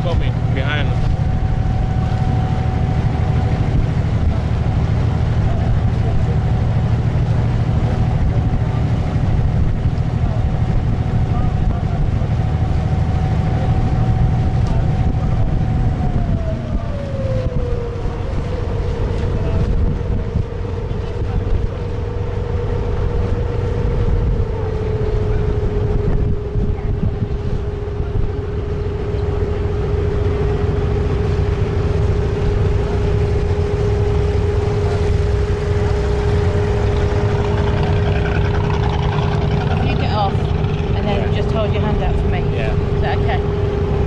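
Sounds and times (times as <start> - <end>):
boat diesel engine running: 0.0 - 44.0
wind buffeting microphone: 0.0 - 44.0.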